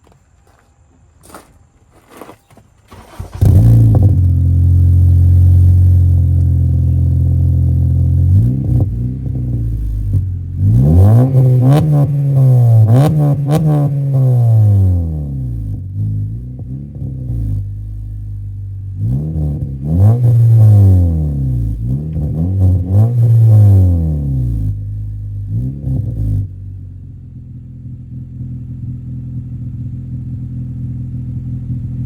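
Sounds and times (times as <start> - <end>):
car engine idling: 2.9 - 32.0
car engine revving: 2.9 - 32.0.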